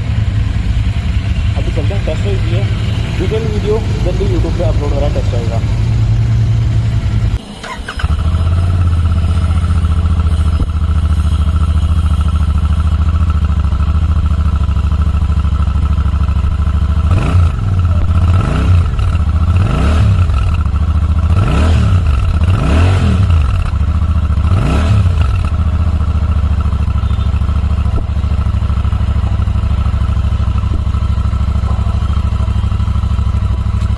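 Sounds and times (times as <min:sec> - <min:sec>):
engine throttle blips: 0:00.0 - 0:33.9
motorcycle engine idling: 0:00.0 - 0:33.9.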